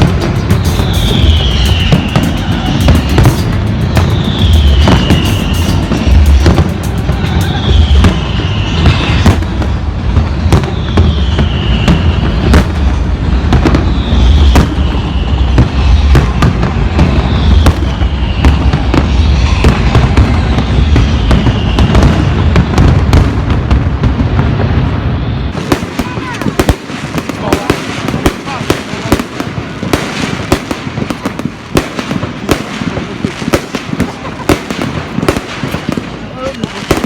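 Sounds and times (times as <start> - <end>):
firework falling whistle: 0.0 - 37.0
fireworks bangs and crackles: 0.0 - 37.0.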